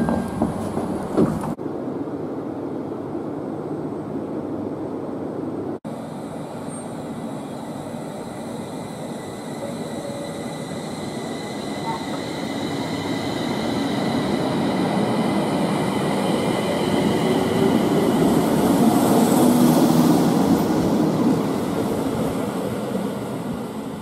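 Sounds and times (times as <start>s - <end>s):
train wheels rumbling on rails: 0.0s - 1.6s, 6.0s - 24.0s.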